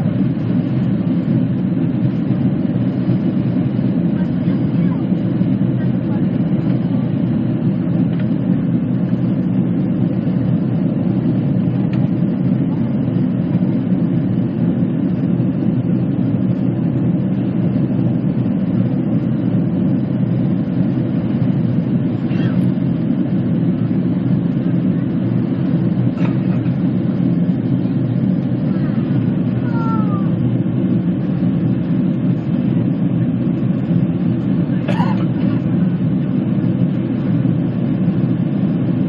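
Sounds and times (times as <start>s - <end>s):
jet engines rumbling in cabin: 0.0s - 39.0s.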